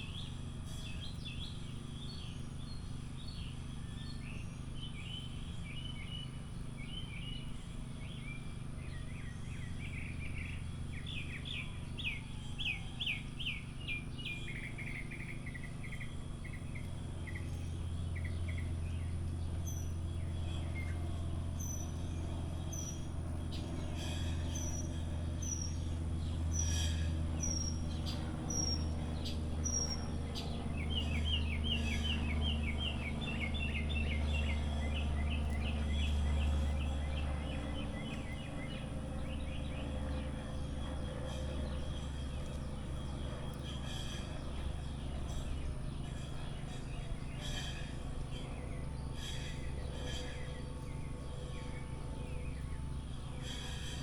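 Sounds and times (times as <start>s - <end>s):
songbirds chirping and calling: 0.0s - 54.0s
steady low hum: 0.0s - 54.0s.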